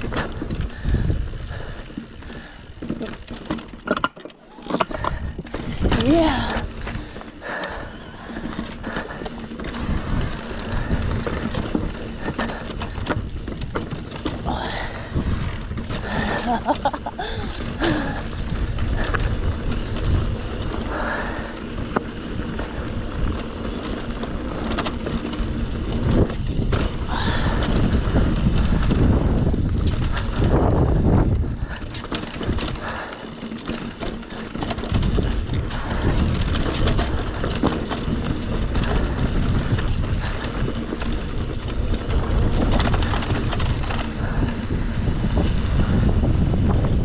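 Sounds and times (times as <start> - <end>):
bike rattles and knocks: 0.0 - 47.0
tyres rumbling on dirt: 0.0 - 47.0
wind: 0.0 - 47.0.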